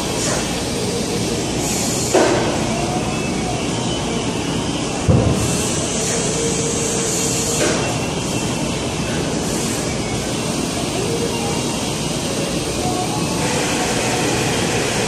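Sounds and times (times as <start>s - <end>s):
steady machine noise: 0.0s - 15.0s.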